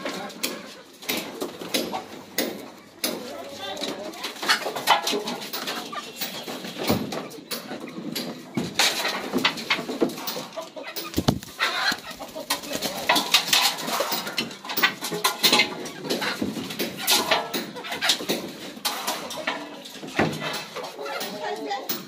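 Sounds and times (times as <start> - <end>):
chickens clucking: 0.0 - 22.0
knocks and clatters: 4.2 - 22.0.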